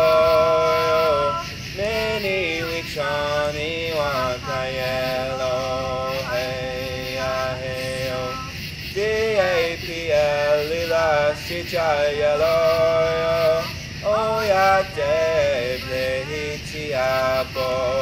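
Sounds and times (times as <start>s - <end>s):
man singing long notes: 0.0s - 18.0s.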